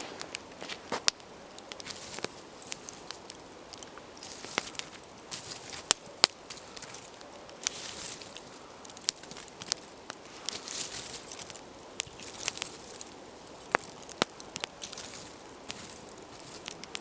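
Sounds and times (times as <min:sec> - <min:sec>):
embers crackling and popping: 0:00.0 - 0:17.0.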